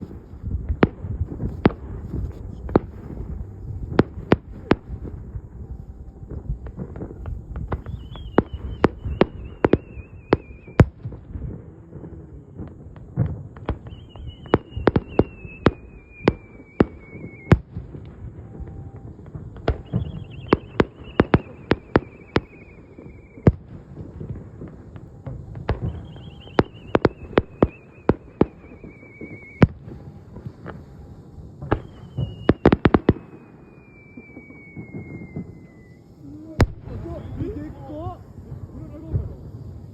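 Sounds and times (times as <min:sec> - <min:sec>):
firework whistling: 0:00.0 - 0:39.9
fireworks bangs: 0:00.0 - 0:39.9.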